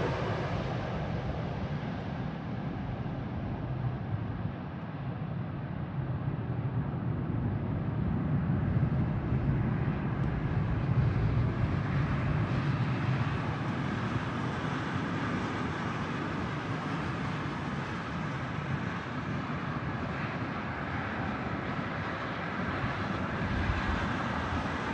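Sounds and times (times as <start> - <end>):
jet engine rumble: 0.0 - 24.9.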